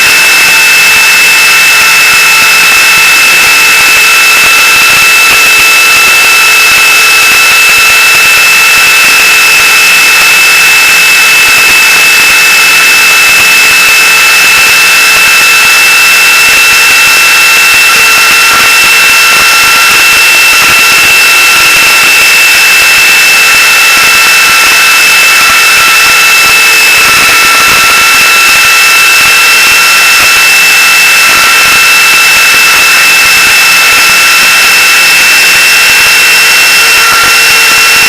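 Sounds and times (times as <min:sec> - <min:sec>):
model helicopter whine: 0:00.0 - 0:38.0.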